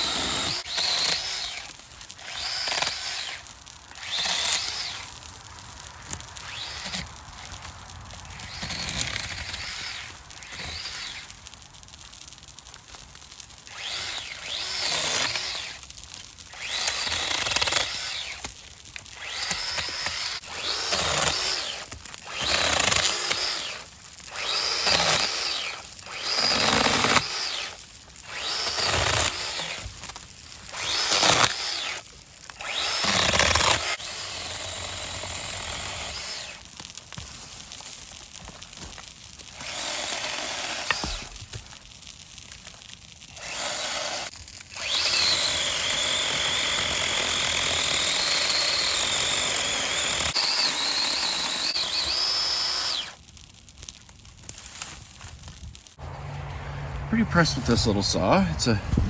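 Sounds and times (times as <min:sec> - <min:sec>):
mini chainsaw cutting branches: 0:00.0 - 0:05.3, 0:05.9 - 0:11.6, 0:13.6 - 0:41.8, 0:42.6 - 0:53.3.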